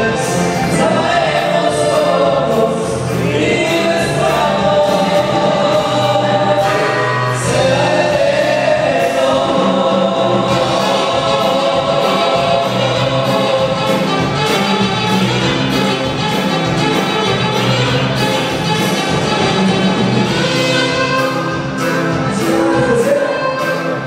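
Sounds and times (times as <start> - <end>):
band playing live: 0.0 - 24.0
bass notes: 0.0 - 24.0.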